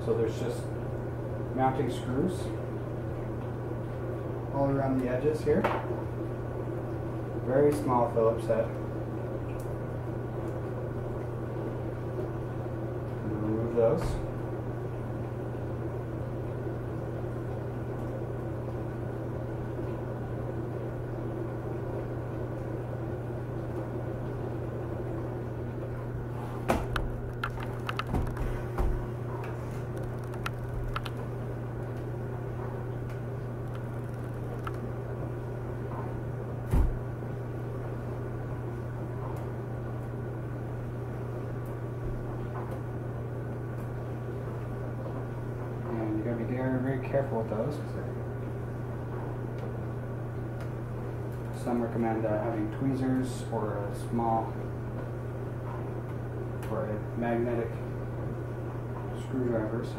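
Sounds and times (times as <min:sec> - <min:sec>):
low hum: 0:08.5 - 0:59.9.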